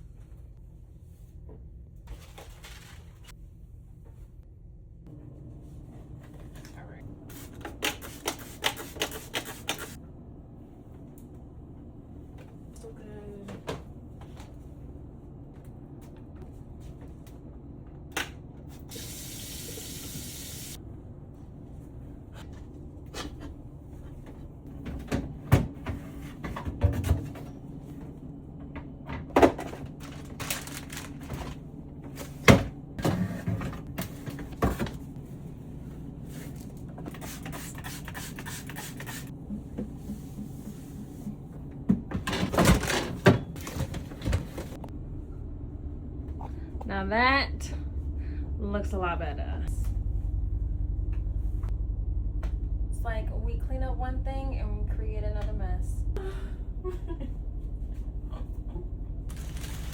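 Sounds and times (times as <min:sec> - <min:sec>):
fridge hum: 0:00.0 - 0:59.9.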